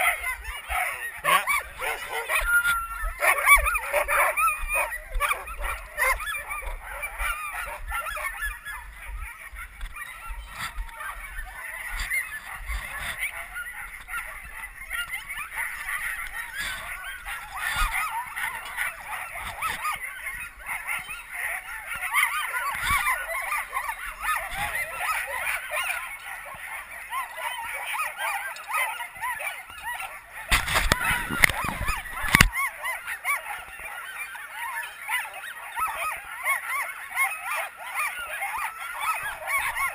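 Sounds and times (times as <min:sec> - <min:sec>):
dogs yelping and howling: 0:00.0 - 0:39.9.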